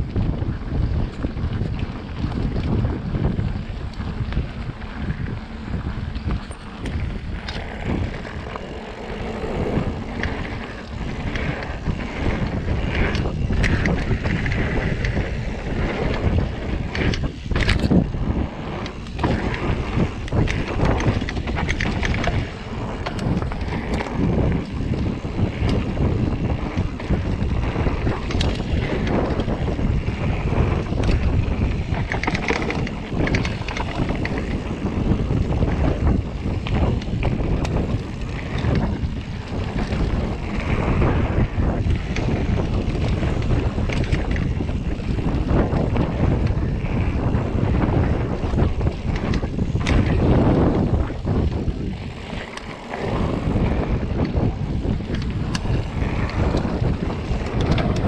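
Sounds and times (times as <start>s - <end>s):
bike knocking and rattling: 0.0s - 58.0s
bike tyres rumbling over dirt: 0.0s - 58.0s
wind buffeting microphone: 0.0s - 58.0s.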